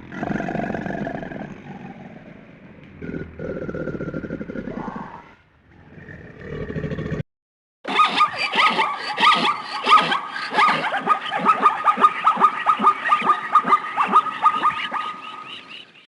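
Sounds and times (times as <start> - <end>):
descending animal calls: 0.0 - 7.2, 7.9 - 16.0.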